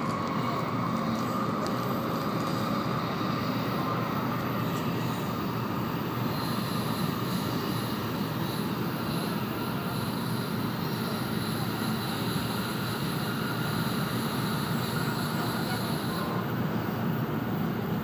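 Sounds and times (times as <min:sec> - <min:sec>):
faint high whine: 0:00.0 - 0:18.0
train rumbling at speed: 0:00.0 - 0:18.0.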